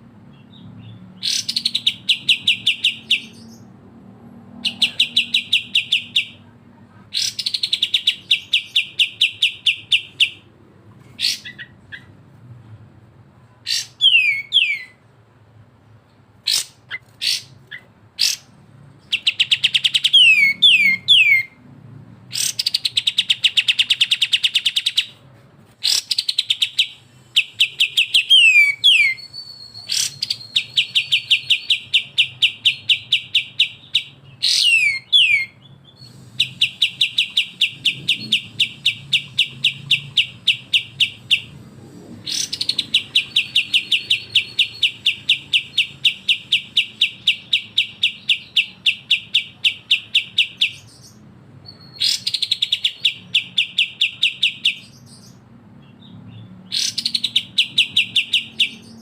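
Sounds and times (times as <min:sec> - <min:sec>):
bird rapid chattering song: 0:00.2 - 0:03.7, 0:04.5 - 0:06.5, 0:07.1 - 0:12.2, 0:13.6 - 0:15.0, 0:16.4 - 0:21.6, 0:22.3 - 0:25.2, 0:25.8 - 0:59.0.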